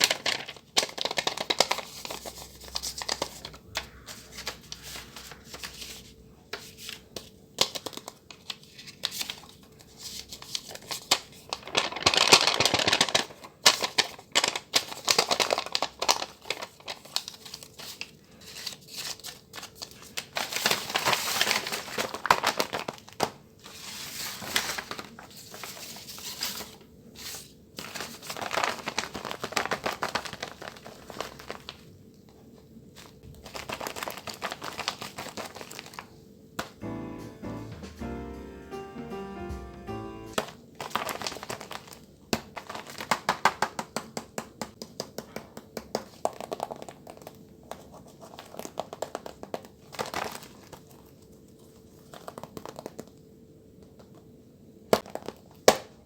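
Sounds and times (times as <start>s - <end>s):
paper crinkling and rustling: 0.0s - 36.2s, 40.4s - 43.6s, 45.3s - 53.3s.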